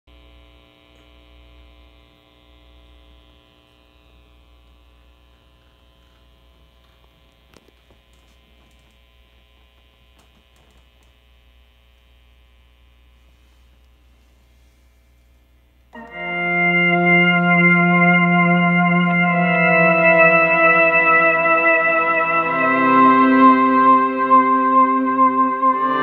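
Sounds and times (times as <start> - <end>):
guitar amplifier mains hum: 0.1 - 26.0.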